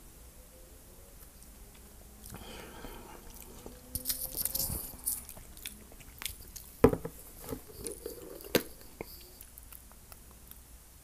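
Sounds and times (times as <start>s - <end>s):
crunchy chewing: 1.2s - 10.6s.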